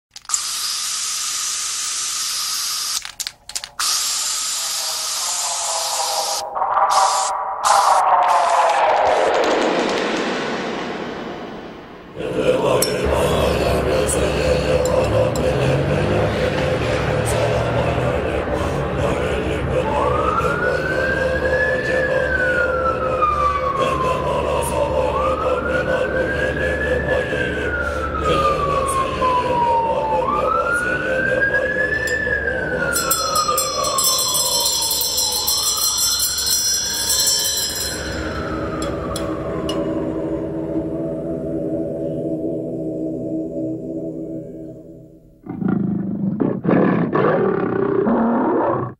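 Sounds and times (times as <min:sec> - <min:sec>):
wailing siren: 0:03.8 - 0:11.3, 0:12.2 - 0:44.7.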